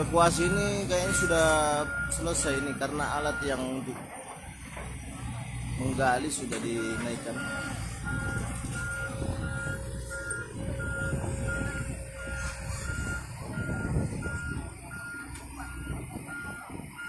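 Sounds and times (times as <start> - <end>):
diesel engine running: 0.0 - 17.0
excavator travel alarm beeping: 0.0 - 17.0.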